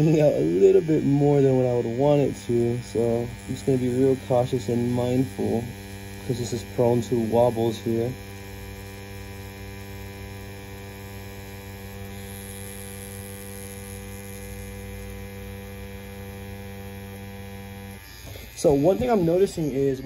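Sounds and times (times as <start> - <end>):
tattoo pen humming: 0.0 - 20.0.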